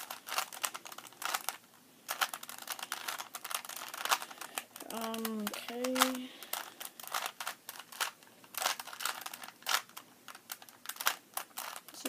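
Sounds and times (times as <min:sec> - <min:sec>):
puzzle cube clicking as twisted: 0:00.0 - 0:12.0.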